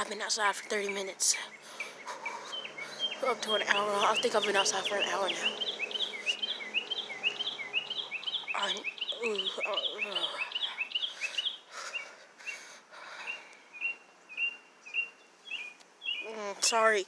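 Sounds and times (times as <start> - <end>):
small bird chirps: 0.3 - 17.0.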